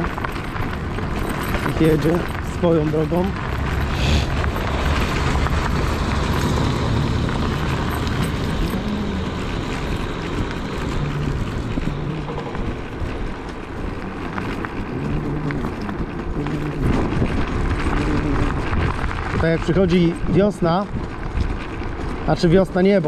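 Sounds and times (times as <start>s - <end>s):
scooter road rumble: 0.0s - 23.0s
wind noise: 0.0s - 23.0s.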